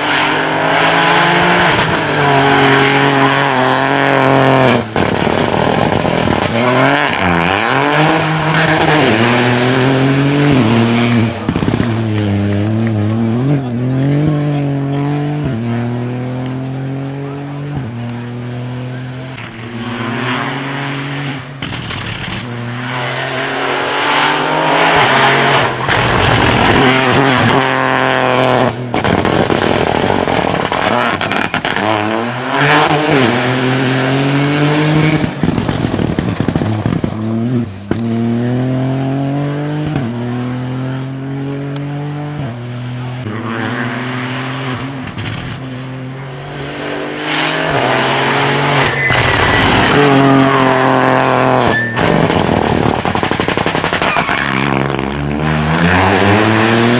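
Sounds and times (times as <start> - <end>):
rally car engine shifting gears: 0.0 - 56.9.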